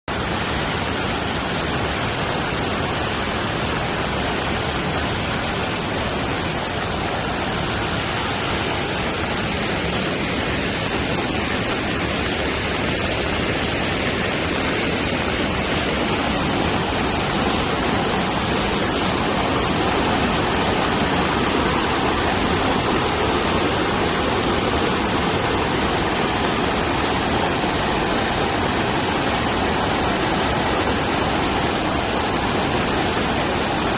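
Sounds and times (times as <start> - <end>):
heavy rain: 0.1 - 33.9
stream rushing: 0.1 - 33.9.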